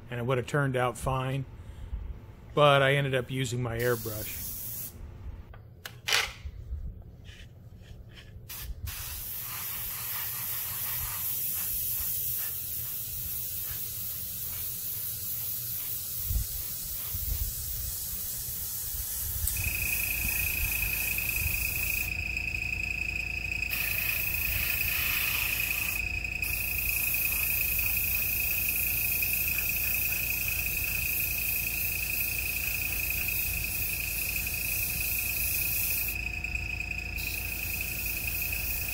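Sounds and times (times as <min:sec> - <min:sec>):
airbrush hissing: 0:03.8 - 0:05.0, 0:07.3 - 0:36.3, 0:37.2 - 0:38.9.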